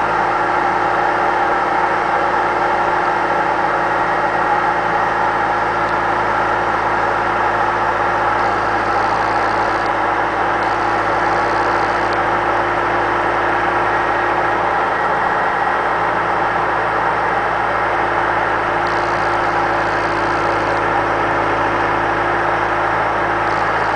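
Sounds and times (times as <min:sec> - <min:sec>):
loader engine humming: 0:00.0 - 0:23.9.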